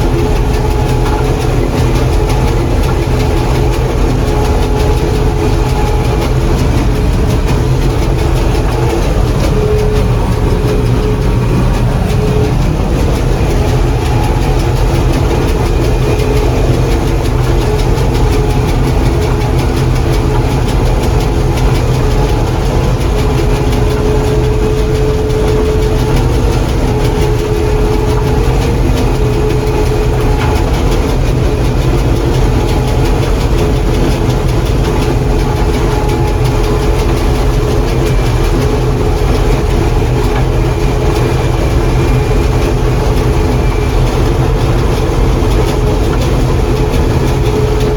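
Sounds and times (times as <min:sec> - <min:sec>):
combine harvester engine rumbling: 0:00.0 - 0:47.9.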